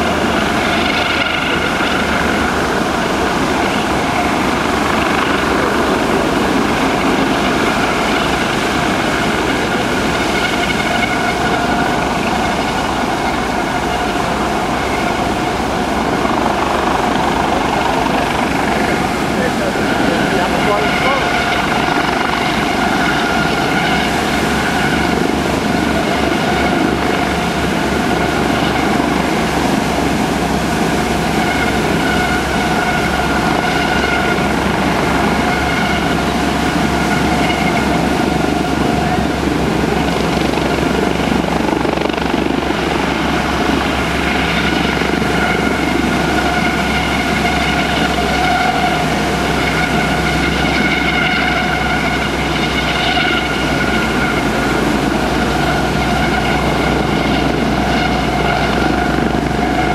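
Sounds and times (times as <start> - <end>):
helicopter rotor and turbine whine: 0.0 - 59.9.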